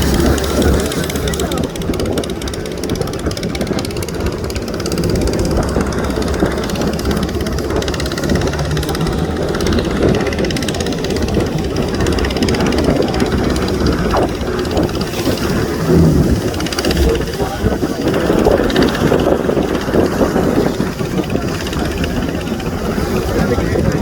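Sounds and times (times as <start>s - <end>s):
jet ski engine running: 0.0s - 24.0s
rushing noise: 0.0s - 24.0s.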